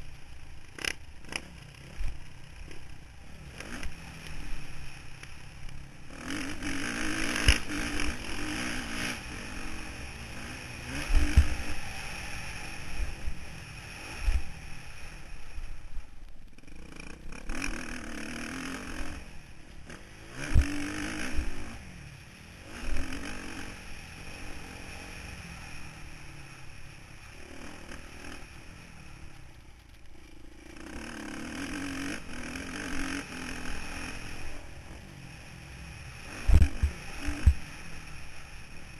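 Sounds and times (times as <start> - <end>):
motocross bike engine revving: 0.0 - 16.0, 16.6 - 29.4, 30.2 - 38.9.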